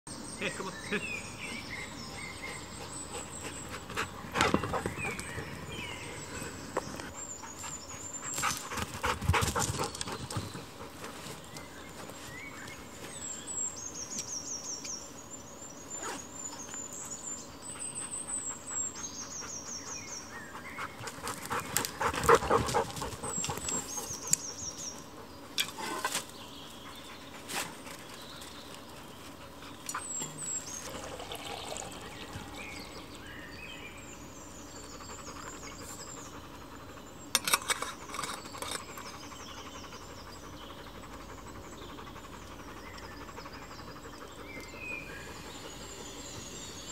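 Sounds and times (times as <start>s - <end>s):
birds trilling: 0.2s - 46.9s.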